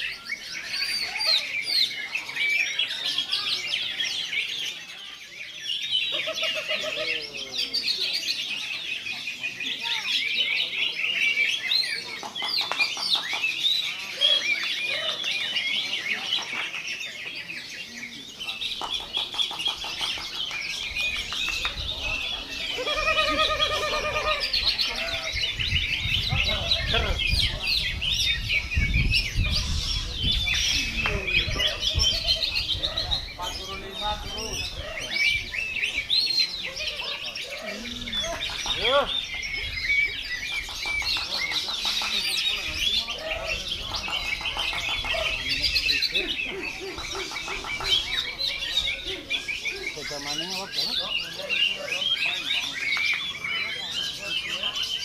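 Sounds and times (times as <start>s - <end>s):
songbirds chirping and warbling: 0.0s - 55.0s.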